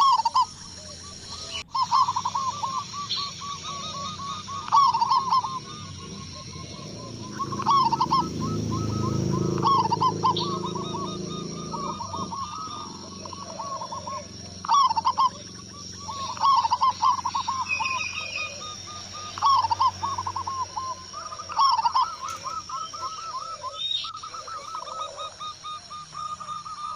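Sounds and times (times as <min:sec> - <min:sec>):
doves cooing: 0:00.0 - 0:26.9.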